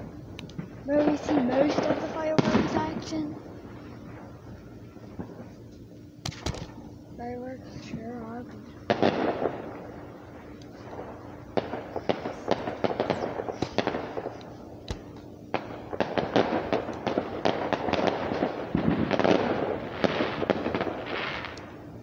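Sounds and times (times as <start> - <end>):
fireworks popping and crackling: 0.0 - 22.0.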